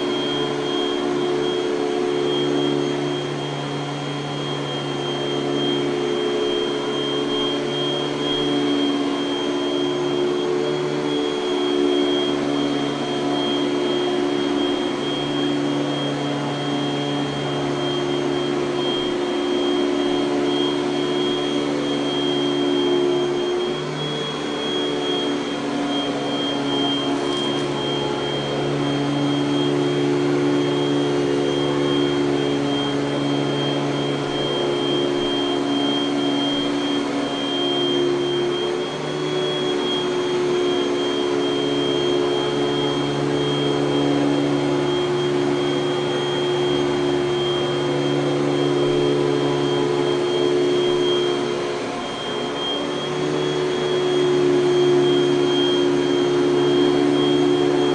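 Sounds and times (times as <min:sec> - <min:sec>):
upright vacuum cleaner running: 0:00.0 - 0:57.9.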